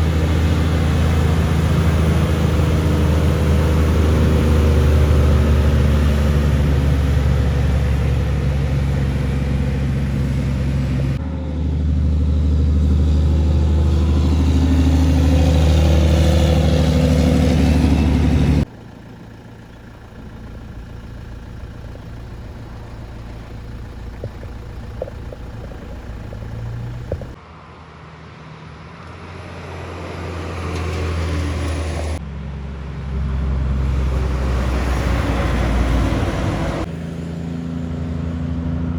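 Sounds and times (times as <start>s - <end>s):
trucks passing on highway: 0.0s - 38.9s.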